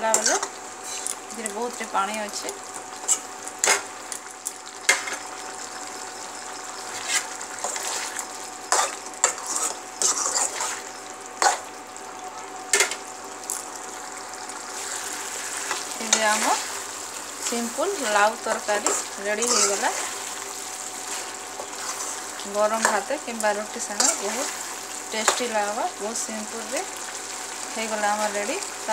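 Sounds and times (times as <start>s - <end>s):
curry sizzling: 0.0s - 28.9s.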